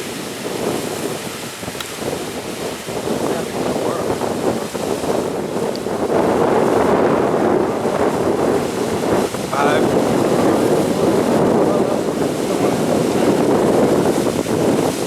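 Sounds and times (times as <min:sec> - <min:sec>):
waterfall rushing and splashing: 0:00.0 - 0:15.0.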